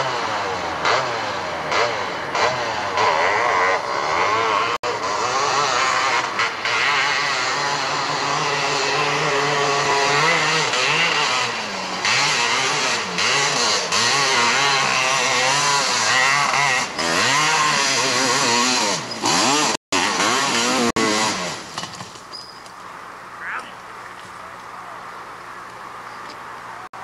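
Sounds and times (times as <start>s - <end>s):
atv engine revving: 0.0s - 22.6s.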